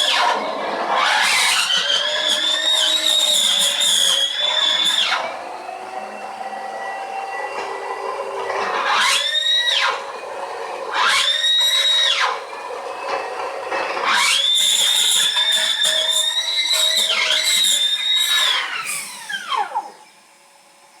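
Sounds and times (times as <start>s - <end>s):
vacuum cleaner high-pitched scream: 0.0s - 20.4s.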